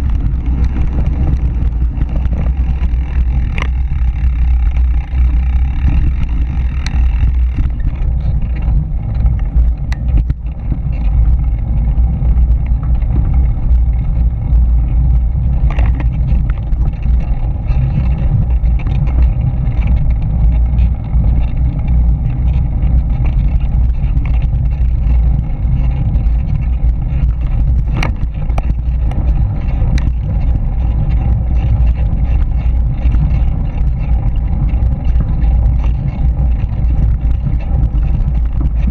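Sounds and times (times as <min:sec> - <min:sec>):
wind and bike vibration rumble: 0:00.0 - 0:38.9.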